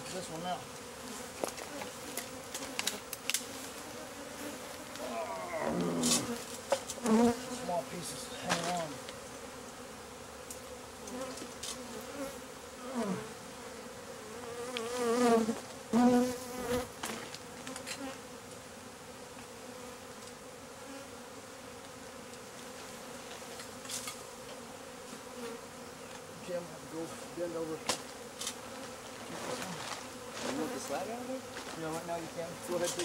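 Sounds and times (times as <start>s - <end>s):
bees buzzing: 0.0s - 33.0s
single bee buzzing close by: 0.1s - 33.0s.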